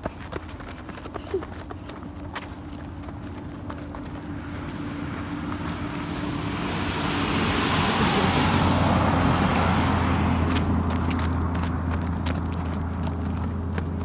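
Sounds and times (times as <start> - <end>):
light footsteps: 0.0 - 14.0
vehicle passing by: 1.6 - 14.0.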